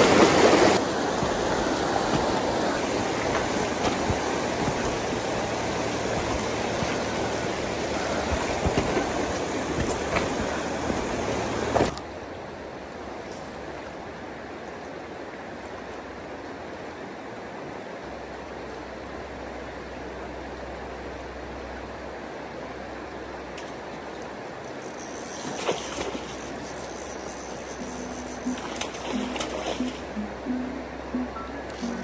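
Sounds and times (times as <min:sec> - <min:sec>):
river flowing: 0:00.0 - 0:32.0.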